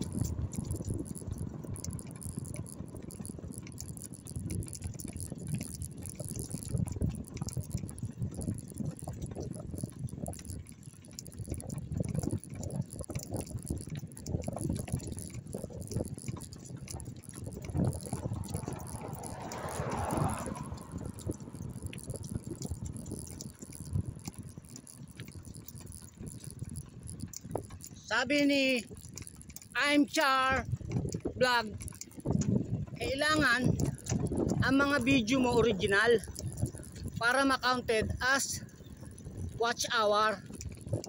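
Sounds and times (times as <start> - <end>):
bike riding rumble: 0.0 - 41.0.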